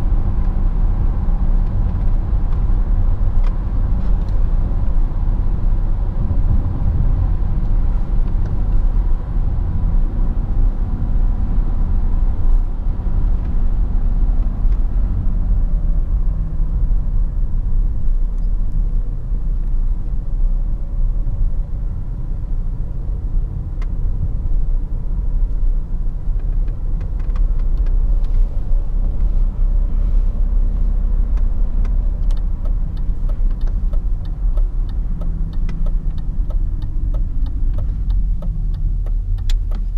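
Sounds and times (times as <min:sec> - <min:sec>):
car engine low rumble: 0:00.0 - 0:39.9
tyres on the road: 0:00.0 - 0:39.9.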